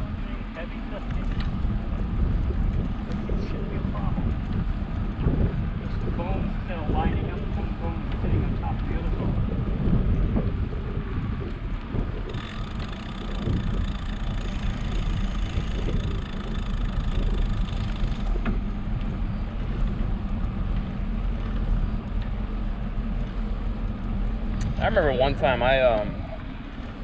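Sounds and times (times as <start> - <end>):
road noise: 0.0 - 27.0
wind buffeting microphone: 0.0 - 27.0.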